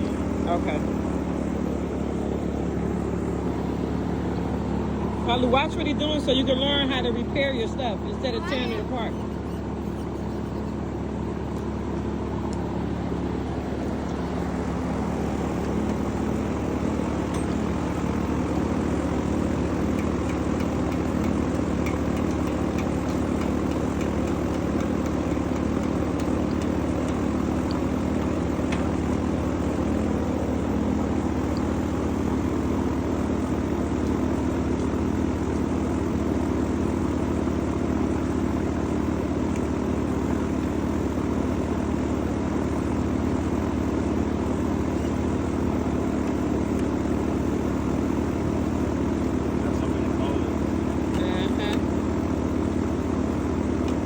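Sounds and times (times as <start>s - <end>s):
steady engine-like drone: 0.0s - 54.0s.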